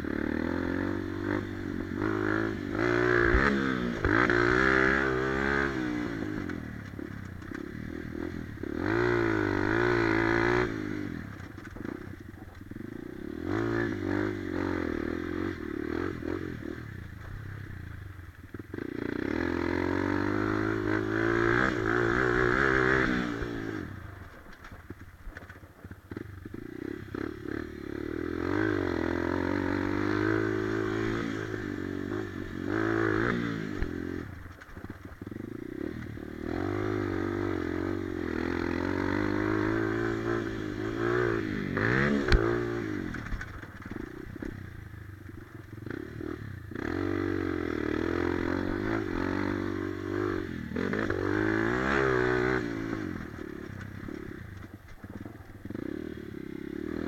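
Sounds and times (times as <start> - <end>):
dirt bike engine revving: 0.0 - 12.0, 12.7 - 17.4, 18.6 - 24.1, 26.1 - 44.6, 45.8 - 57.0.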